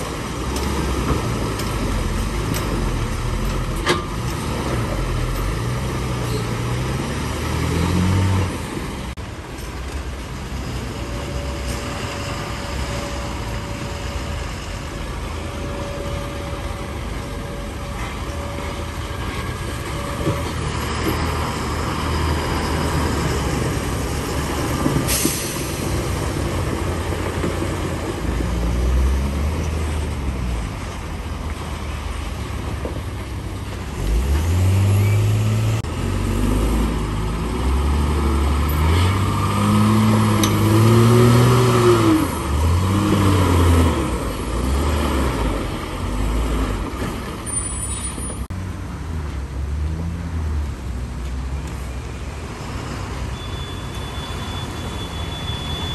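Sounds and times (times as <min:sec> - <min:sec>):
truck diesel engines labouring: 0:00.0 - 0:55.9.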